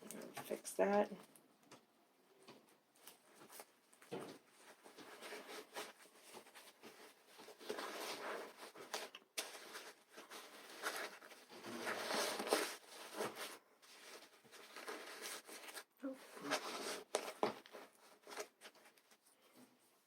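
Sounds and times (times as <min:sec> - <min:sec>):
fabric rustling: 0:02.6 - 0:20.0.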